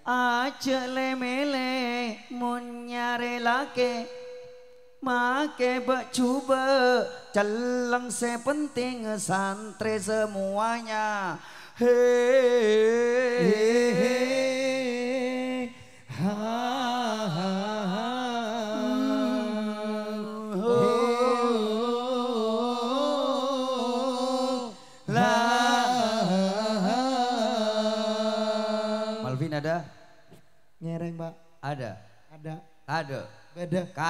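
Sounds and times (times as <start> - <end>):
man singing into a microphone: 0.0 - 30.0.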